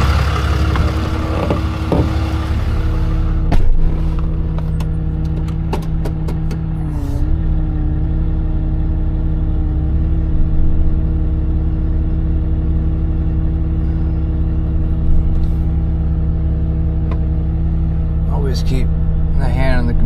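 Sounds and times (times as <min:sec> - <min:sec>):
truck engine droning: 0:00.0 - 0:20.0.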